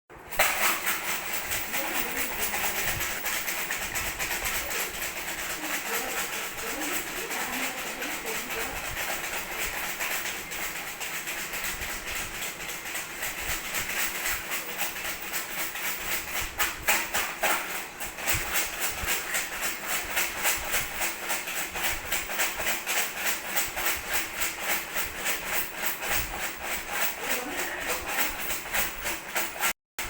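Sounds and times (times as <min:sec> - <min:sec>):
baby rattle shaken: 0:00.3 - 0:29.8.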